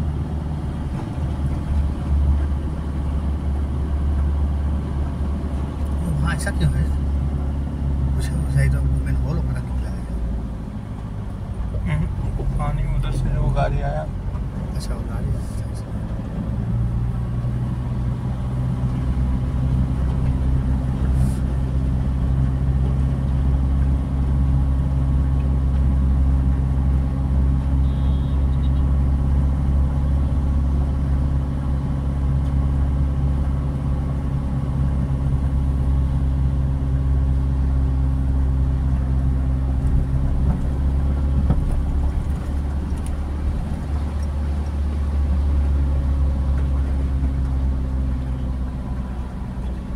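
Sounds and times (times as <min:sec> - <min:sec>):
car engine drone from inside: 0:00.0 - 0:49.9.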